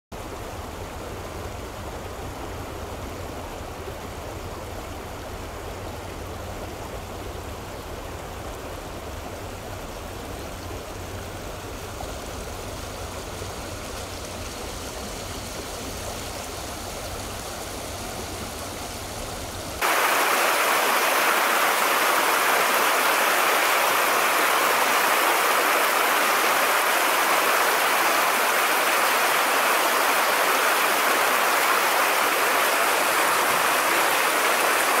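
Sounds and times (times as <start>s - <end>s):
river water rushing: 0.2s - 35.0s.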